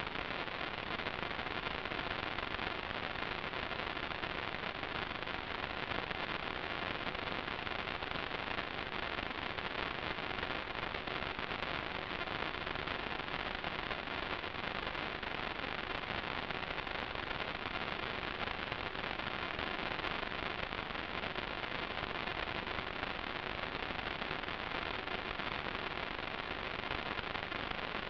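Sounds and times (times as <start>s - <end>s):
static hiss: 0.0s - 28.0s.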